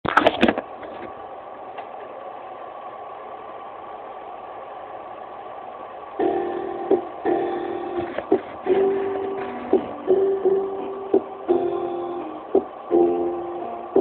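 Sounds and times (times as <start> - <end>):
room and microphone hiss: 0.0 - 14.0.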